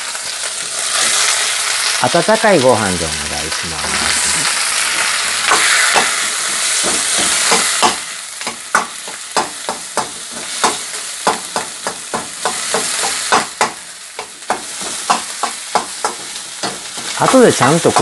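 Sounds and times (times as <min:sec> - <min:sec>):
rice sizzling in a wok: 0:00.0 - 0:18.0.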